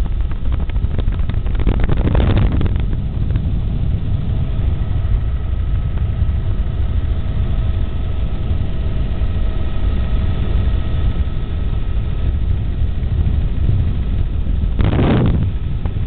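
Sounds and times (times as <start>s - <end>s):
faint steady whine: 0.0s - 16.0s
helicopter rotor and engine rumble: 0.0s - 16.0s.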